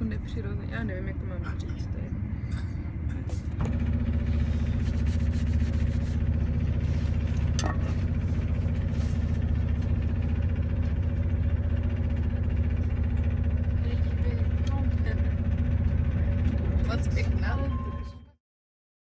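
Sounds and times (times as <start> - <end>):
train engine drone and rumble: 0.0 - 18.4.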